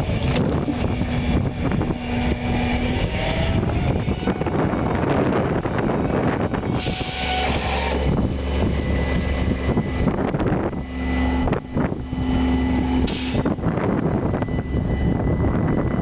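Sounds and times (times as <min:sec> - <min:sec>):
truck engine running: 0:00.0 - 0:16.0
wind buffeting microphone: 0:00.0 - 0:16.0.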